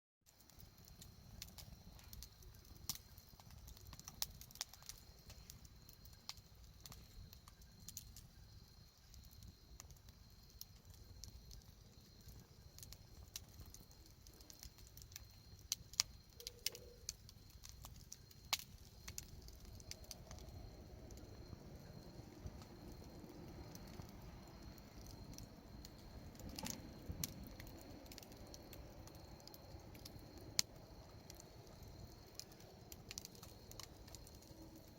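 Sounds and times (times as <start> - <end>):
fire pops and snaps: 0.3 - 34.9
wood fire crackling: 0.3 - 34.9.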